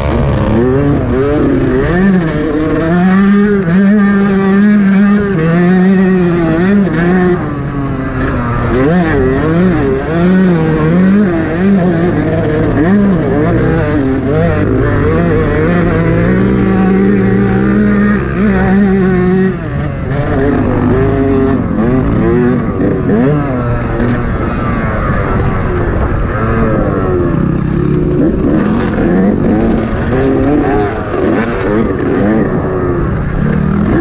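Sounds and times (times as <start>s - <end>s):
motocross bike engine revving: 0.0s - 34.0s.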